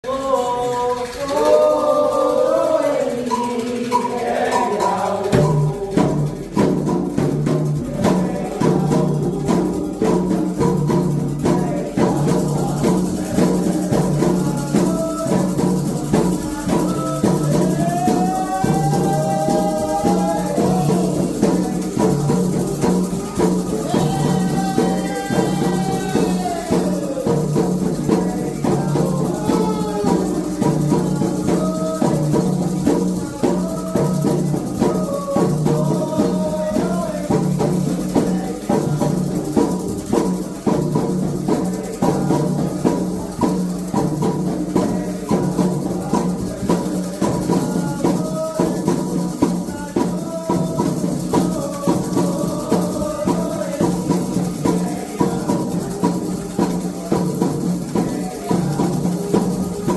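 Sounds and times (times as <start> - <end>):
hand drums: 0.0 - 59.9
people singing chants: 0.0 - 59.9
shakers: 0.0 - 59.9.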